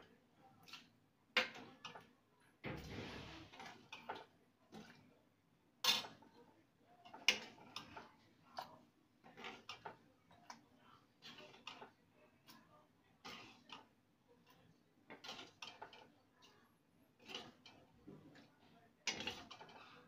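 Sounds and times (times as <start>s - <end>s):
spoon scraping a cooking pan: 0.0s - 5.0s, 5.8s - 6.4s, 7.0s - 20.0s.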